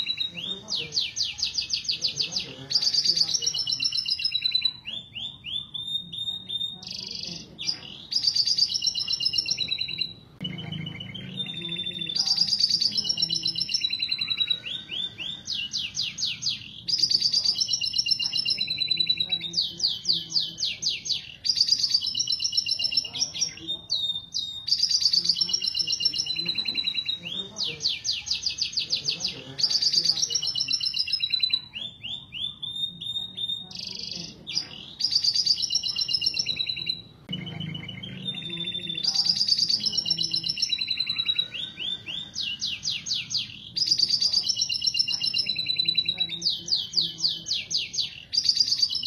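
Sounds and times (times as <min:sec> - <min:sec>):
canary singing: 0:00.0 - 0:49.0.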